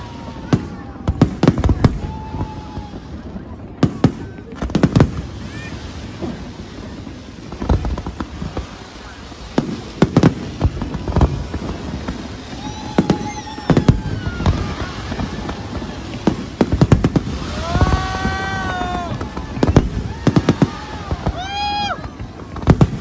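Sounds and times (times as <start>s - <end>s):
background rumble: 0.0s - 23.0s
fireworks bangs: 0.0s - 23.0s.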